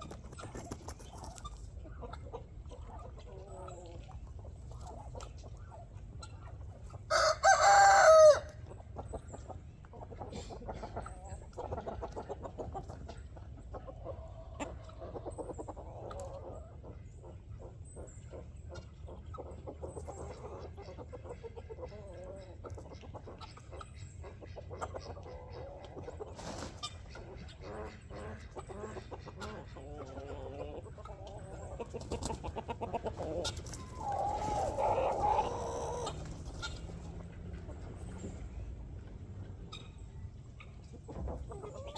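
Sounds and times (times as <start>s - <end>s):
hens clucking: 0.0s - 41.9s.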